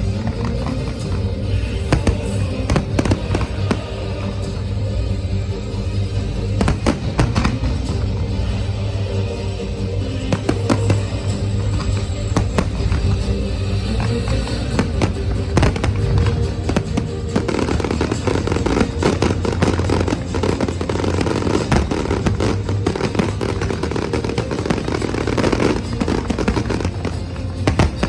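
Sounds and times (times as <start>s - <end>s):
fireworks bangs and crackles: 0.0s - 28.0s
loud music: 0.0s - 28.0s.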